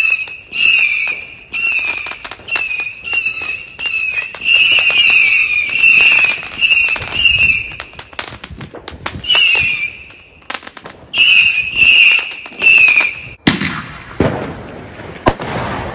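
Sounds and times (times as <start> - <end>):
crackling pops: 0.0 - 15.9
whistling fireworks: 0.0 - 15.9.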